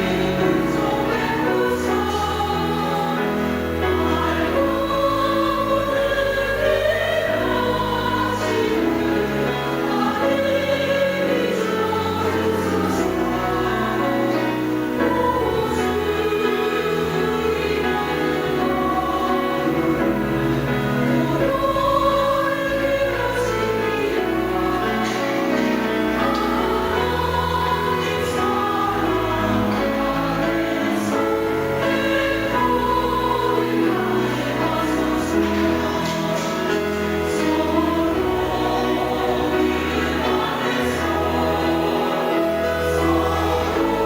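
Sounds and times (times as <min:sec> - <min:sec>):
choir singing a hymn: 0:00.0 - 0:44.0.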